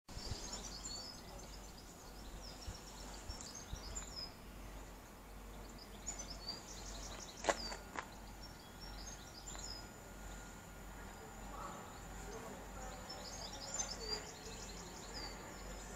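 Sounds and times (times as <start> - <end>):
faint low hum: 0.1 - 15.9
small birds chirping: 0.1 - 15.9.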